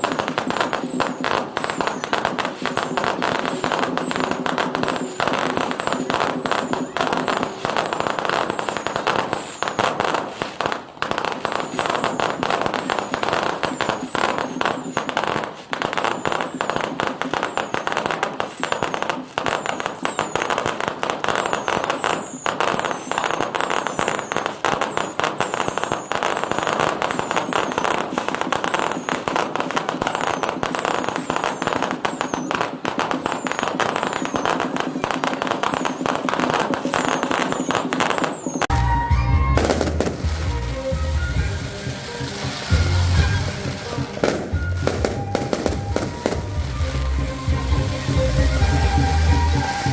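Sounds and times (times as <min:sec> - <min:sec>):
falling firework whistles: 0:00.0 - 0:49.9
fireworks bangs and crackles: 0:00.0 - 0:49.9.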